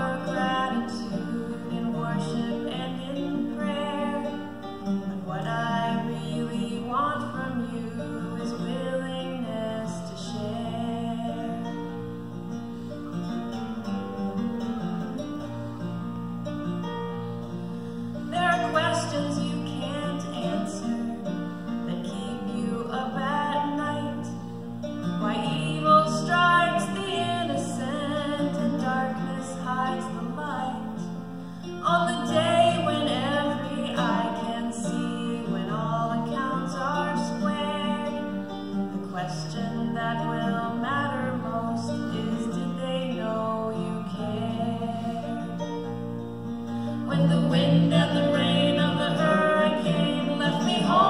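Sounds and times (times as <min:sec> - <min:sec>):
woman singing: 0:00.0 - 0:12.2, 0:18.2 - 0:46.0, 0:46.9 - 0:51.0
acoustic guitar: 0:00.0 - 0:51.0.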